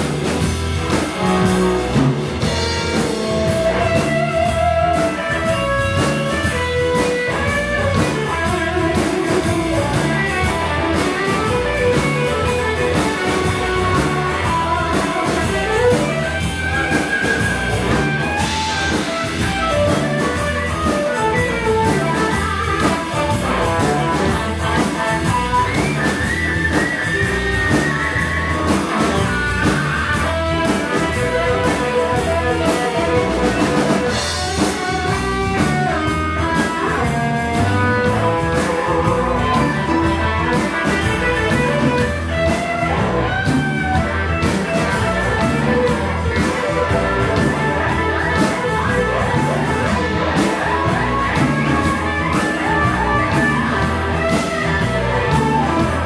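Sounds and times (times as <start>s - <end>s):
lead guitar with bent notes: 0.0s - 56.0s
live blues-rock band playing: 0.0s - 56.0s.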